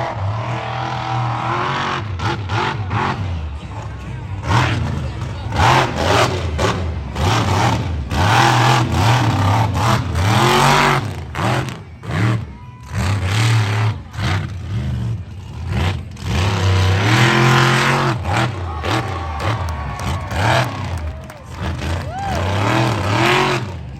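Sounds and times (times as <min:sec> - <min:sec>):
large vehicle engine revving: 0:00.0 - 0:23.9.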